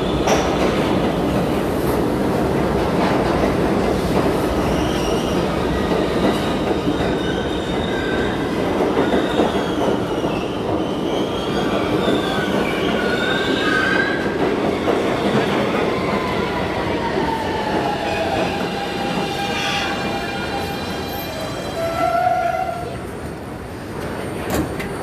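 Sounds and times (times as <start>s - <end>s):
subway train rumbling: 0.0s - 25.0s
steel wheels squealing on rails: 4.6s - 25.0s.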